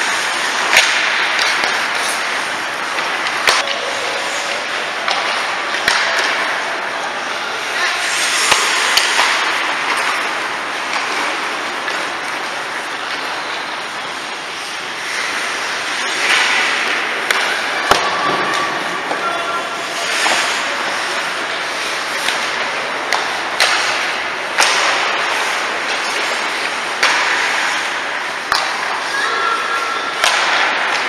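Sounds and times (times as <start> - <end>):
hockey sticks and puck clacking: 0.0 - 31.0
skate blades scraping ice: 0.0 - 31.0.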